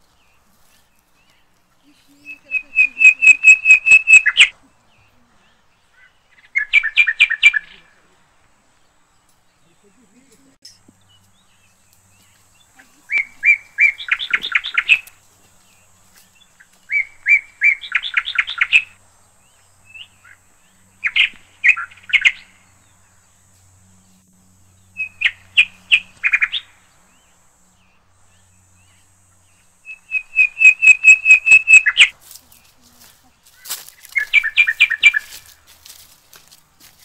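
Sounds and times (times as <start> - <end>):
songbird singing with trill: 1.0 - 7.9, 8.8 - 23.3, 23.9 - 32.7, 33.6 - 35.5.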